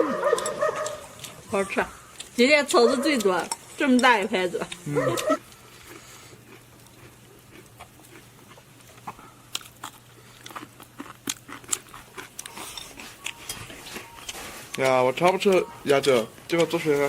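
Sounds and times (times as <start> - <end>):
people chewing crunchy food: 0.0 - 17.0.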